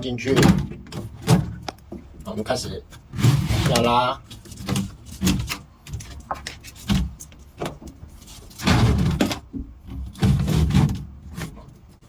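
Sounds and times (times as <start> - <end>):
plastic hose rubbing and scraping: 0.6 - 12.0.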